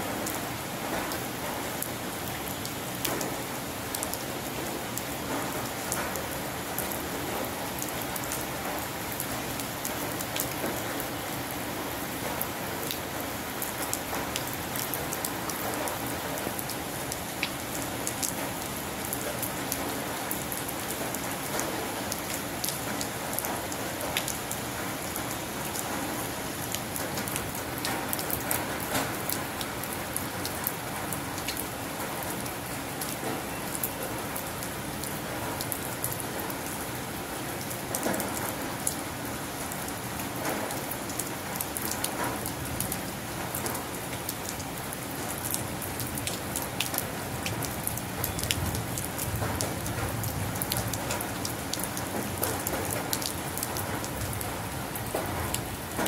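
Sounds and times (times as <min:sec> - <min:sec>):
rain falling on water: 0:00.0 - 0:56.0.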